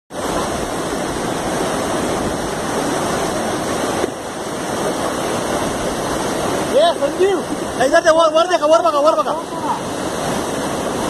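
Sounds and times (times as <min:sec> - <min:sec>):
river water rushing: 0:00.1 - 0:11.0.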